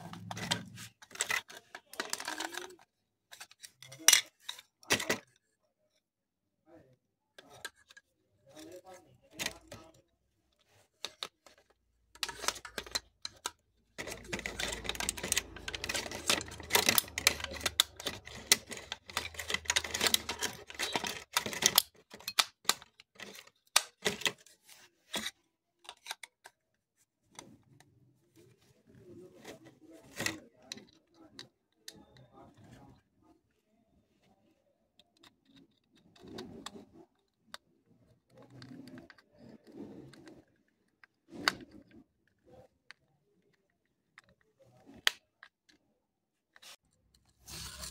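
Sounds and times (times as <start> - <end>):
plastic clicks and rattles: 0.0 - 6.0, 7.4 - 27.9, 34.6 - 47.9.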